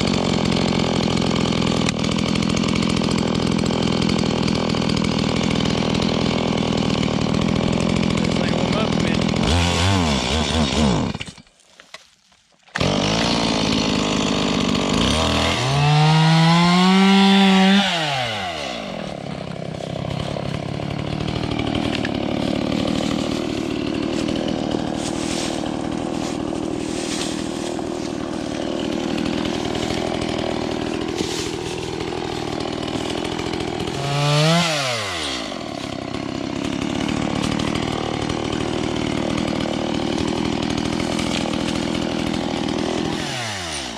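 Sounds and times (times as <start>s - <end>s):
chainsaw revving through wood: 0.0s - 11.5s, 12.7s - 43.9s.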